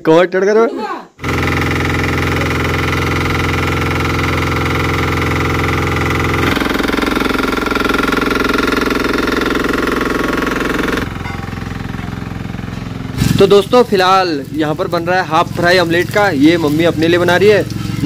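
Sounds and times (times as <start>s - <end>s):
road roller engine clattering: 1.2s - 18.0s.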